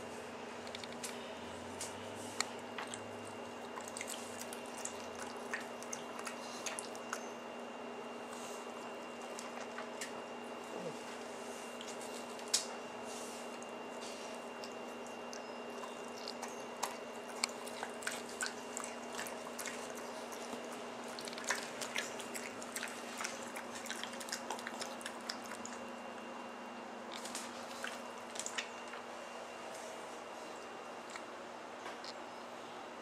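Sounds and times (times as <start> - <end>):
faint steady hum: 0.0 - 33.0
dog chewing and smacking: 1.8 - 7.5, 8.1 - 26.4, 27.0 - 29.1, 31.0 - 32.3.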